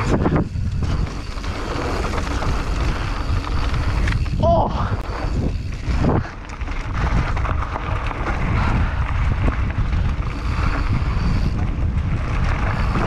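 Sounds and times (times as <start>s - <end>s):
bike rattling: 0.0s - 13.0s
tyre noise on dirt: 0.0s - 13.0s
wind buffeting microphone: 0.0s - 13.0s.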